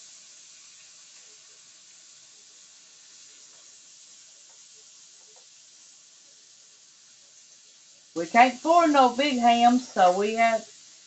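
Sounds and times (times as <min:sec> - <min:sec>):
ham sizzling in a skillet: 0:00.0 - 0:11.0.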